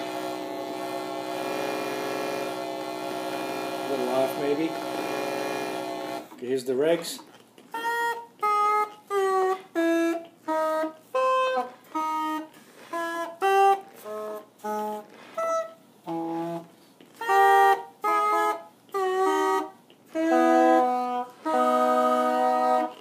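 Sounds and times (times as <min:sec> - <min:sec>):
uilleann pipe regulator notes and chords: 0:00.0 - 0:23.0.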